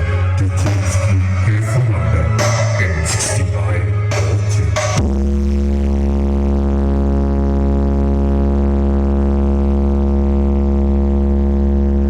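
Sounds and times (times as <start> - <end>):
deep bass tone from speakers: 0.0 - 12.0
music over sound system: 0.0 - 12.0.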